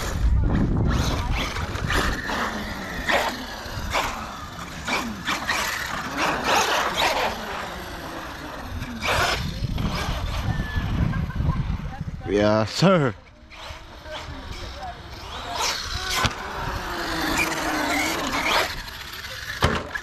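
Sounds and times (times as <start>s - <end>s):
electric motor whining: 0.0s - 12.2s, 12.9s - 20.0s.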